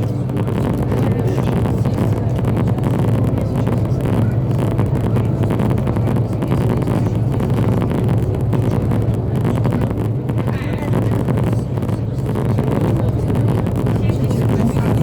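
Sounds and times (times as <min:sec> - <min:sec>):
boat diesel engines humming: 0:00.0 - 0:15.0.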